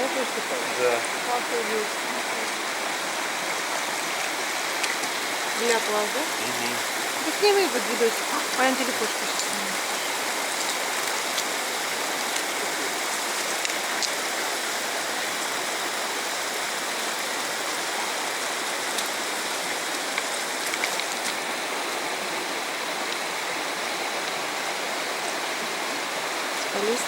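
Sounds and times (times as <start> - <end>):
fast-flowing stream water: 0.0 - 27.0.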